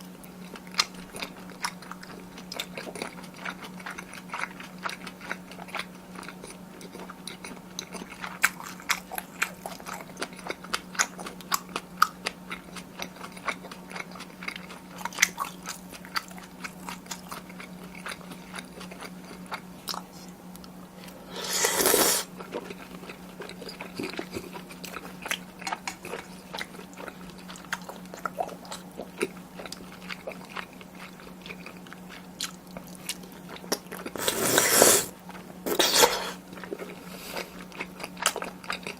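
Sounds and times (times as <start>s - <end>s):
wet chewing mouth sounds: 0.2s - 38.9s.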